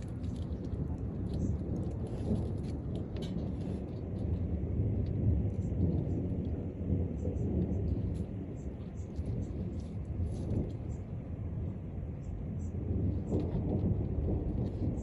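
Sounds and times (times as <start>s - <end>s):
distant thunder rumbling: 0.0s - 15.0s.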